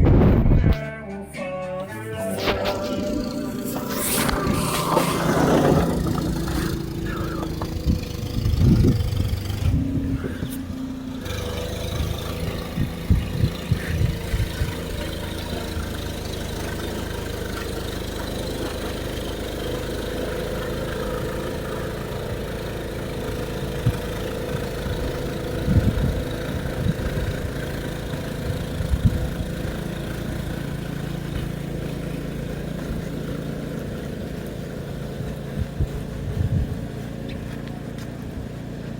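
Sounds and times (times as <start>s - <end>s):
engine idling: 1.6s - 38.9s.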